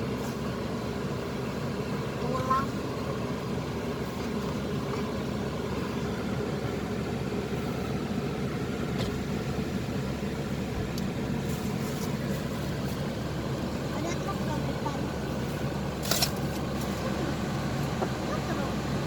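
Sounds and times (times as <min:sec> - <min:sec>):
car engine droning: 0:00.0 - 0:19.0
tyres on road: 0:00.0 - 0:19.0.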